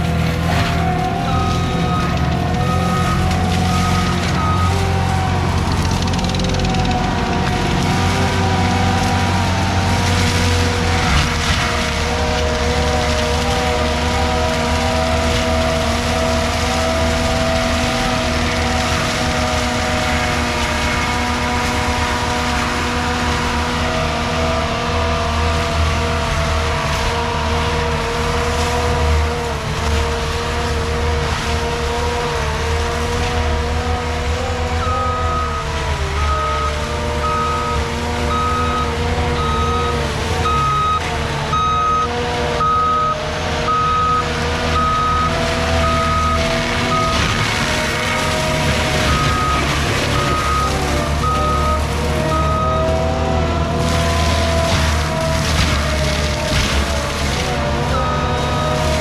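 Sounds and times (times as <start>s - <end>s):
forestry mulcher droning: 0.0s - 59.0s.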